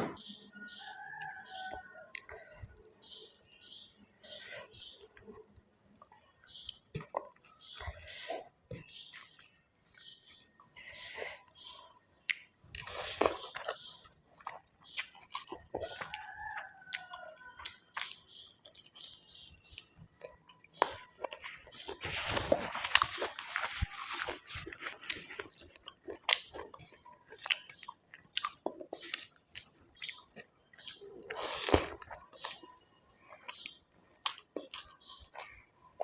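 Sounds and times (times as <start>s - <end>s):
chewing and crunching food: 0.3s - 36.0s.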